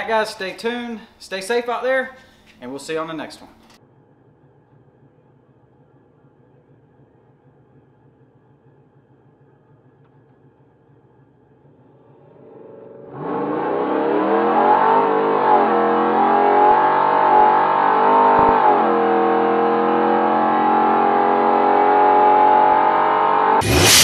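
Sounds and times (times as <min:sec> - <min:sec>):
truck engine accelerating: 0:03.8 - 0:24.0.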